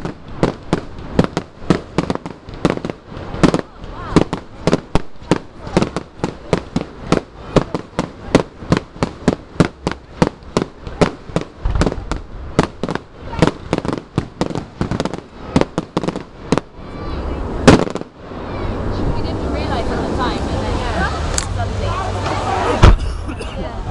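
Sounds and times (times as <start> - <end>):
fireworks banging: 0.0 - 23.7.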